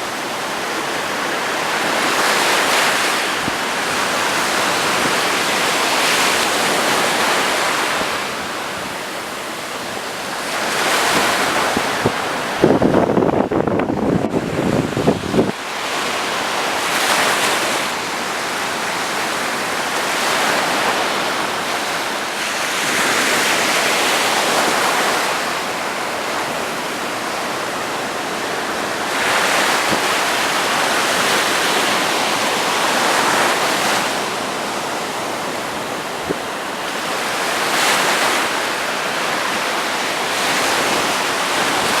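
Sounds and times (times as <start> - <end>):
strong wind: 0.0 - 42.0
surf rushing: 0.0 - 42.0.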